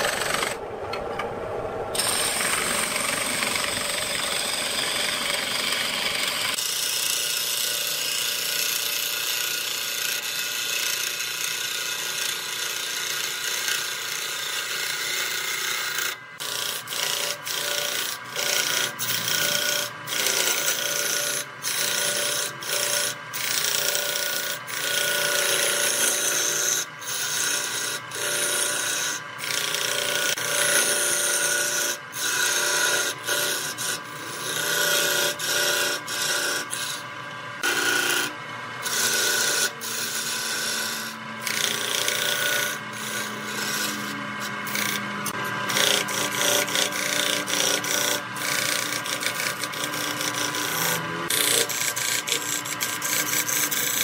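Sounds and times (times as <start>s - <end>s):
gouge cutting wood on lathe: 0.0s - 0.6s, 1.9s - 54.0s.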